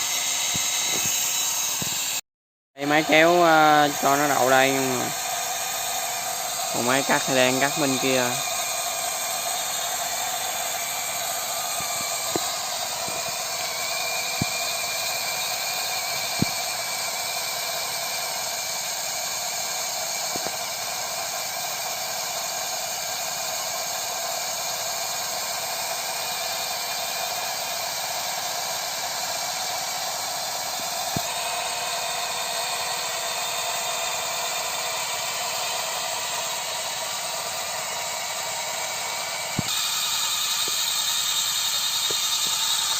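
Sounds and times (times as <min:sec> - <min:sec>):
combine harvester running: 0:00.0 - 0:02.2, 0:02.8 - 0:42.9.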